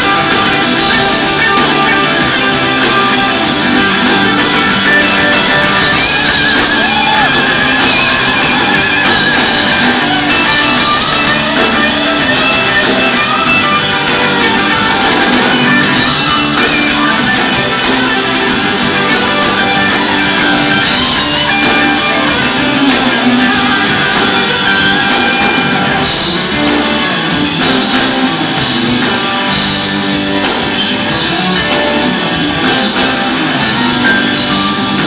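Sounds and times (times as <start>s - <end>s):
electric guitars: 0.0s - 35.0s
live rock band playing: 0.0s - 35.0s.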